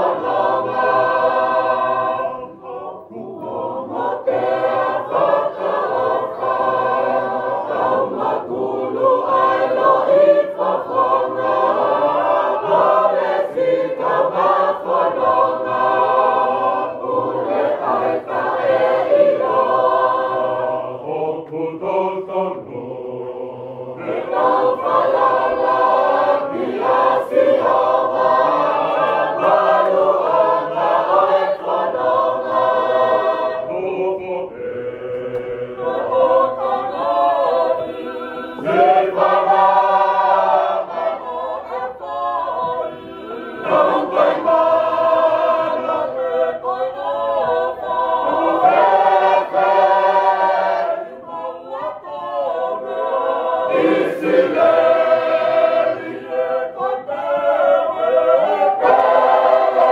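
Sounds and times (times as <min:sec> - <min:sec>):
choir singing unaccompanied hymn: 0:00.0 - 0:59.9.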